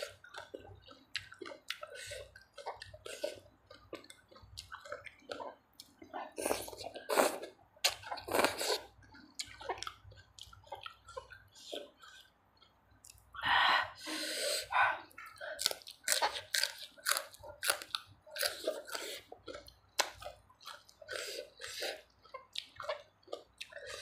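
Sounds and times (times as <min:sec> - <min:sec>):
wet chewing and smacking: 0:00.0 - 0:13.4, 0:14.6 - 0:24.0.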